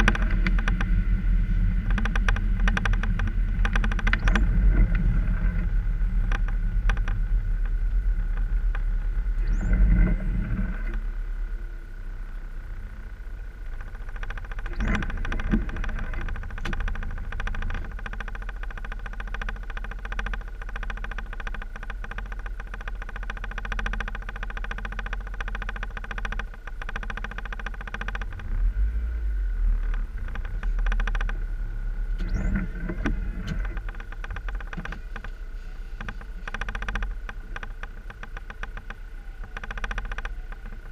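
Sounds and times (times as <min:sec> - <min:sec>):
fine rapid rattle: 0:00.0 - 0:11.2, 0:12.8 - 0:28.6, 0:29.7 - 0:40.9
car engine and road rumble: 0:00.0 - 0:40.9.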